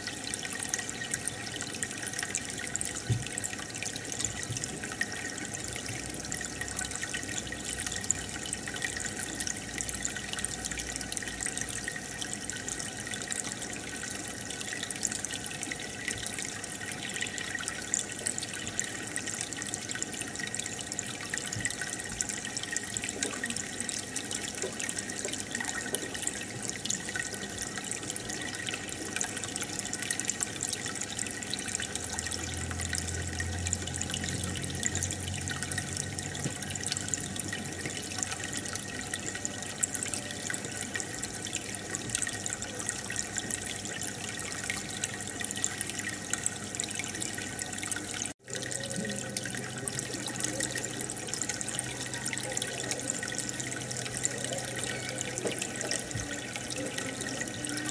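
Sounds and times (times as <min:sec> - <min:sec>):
aquarium air stone bubbling: 0:00.0 - 0:57.9.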